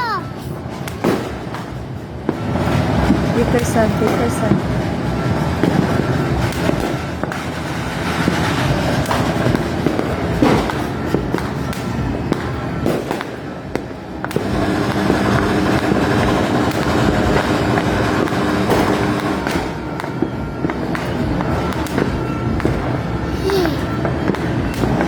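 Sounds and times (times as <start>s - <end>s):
firecracker bangs and crackles: 0.0s - 25.0s
rumble of distant fireworks: 0.0s - 25.0s.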